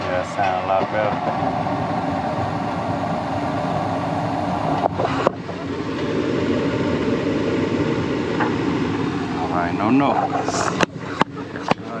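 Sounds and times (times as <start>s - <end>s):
furnace fan motor humming: 0.0s - 12.0s.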